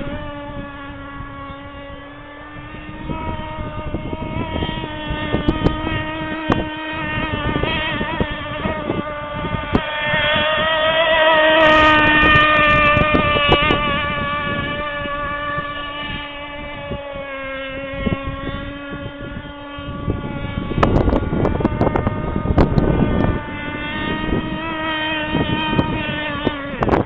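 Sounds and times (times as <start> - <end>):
model boat motor whining: 0.0 - 27.0
wind buffeting microphone: 0.0 - 27.0.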